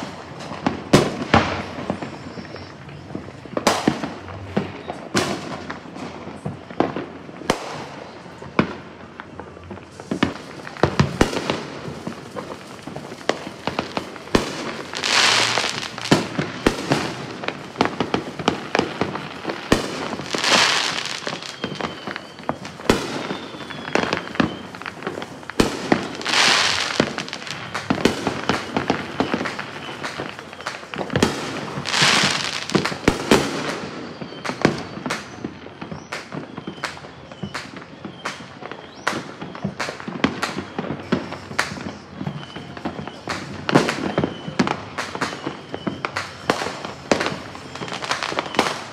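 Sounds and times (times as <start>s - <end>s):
fireworks hissing and crackling: 0.0s - 48.9s
fireworks popping and banging: 0.0s - 48.9s.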